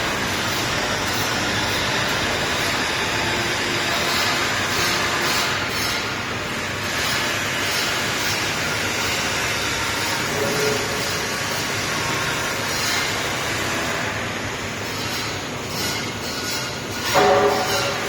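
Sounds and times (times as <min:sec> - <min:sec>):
laser cutting machine hiss and hum: 0:00.0 - 0:18.0.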